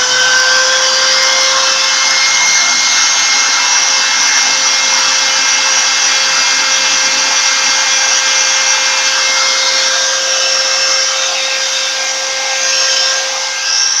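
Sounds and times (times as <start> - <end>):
cnc spindle motor whining: 0.0 - 14.0.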